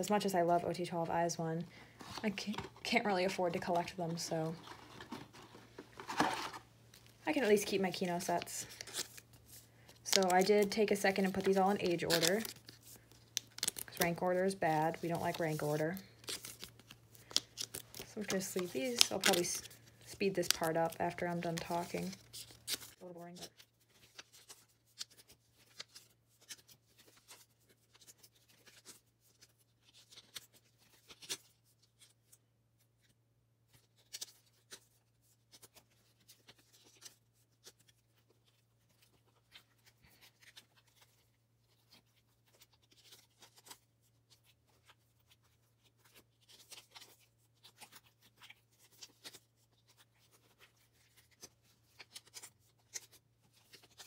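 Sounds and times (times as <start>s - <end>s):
plastic sleeves rustling: 0.0s - 54.0s.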